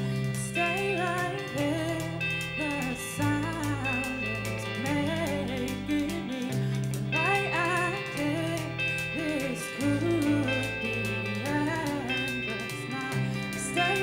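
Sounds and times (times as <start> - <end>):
bass guitar: 0.0 - 14.0
drums: 0.0 - 14.0
electric guitar: 0.0 - 14.0
woman singing: 0.0 - 14.0.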